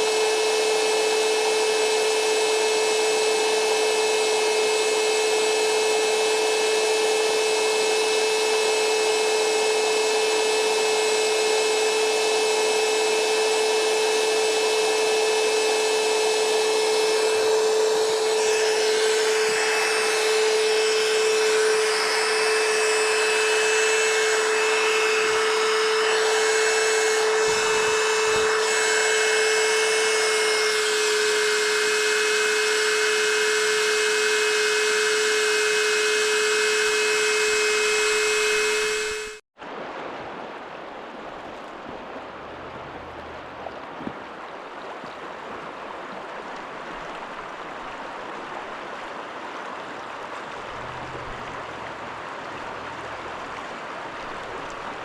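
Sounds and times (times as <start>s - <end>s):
small motor humming and whirring: 0.0s - 39.4s, 46.6s - 55.0s.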